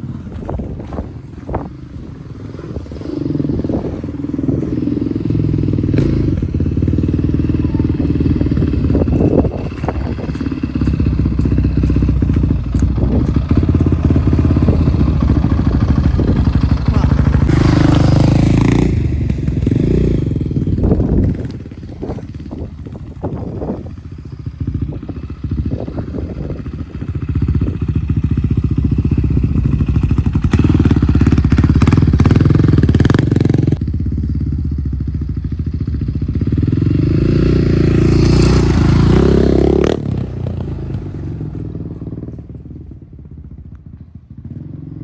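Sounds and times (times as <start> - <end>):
dirt bike engine revving: 0.9 - 34.7, 35.7 - 42.3.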